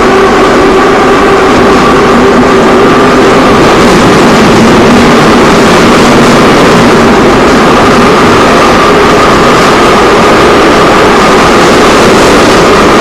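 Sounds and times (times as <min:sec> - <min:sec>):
faint motor whine: 0:00.0 - 0:13.0
metro train rumble: 0:00.0 - 0:13.0.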